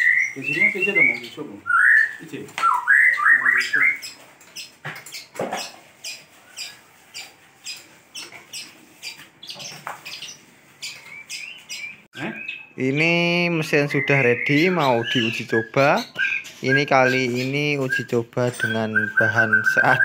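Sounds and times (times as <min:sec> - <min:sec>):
bird calls bending in pitch: 0:00.0 - 0:20.0
sharp bird chirps: 0:00.0 - 0:20.0.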